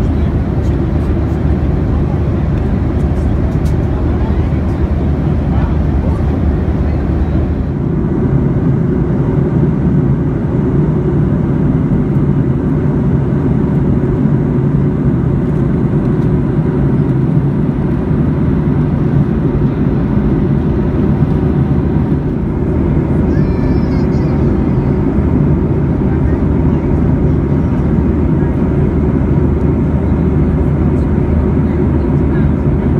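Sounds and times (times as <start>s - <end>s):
airplane cabin engine roar: 0.0s - 32.9s.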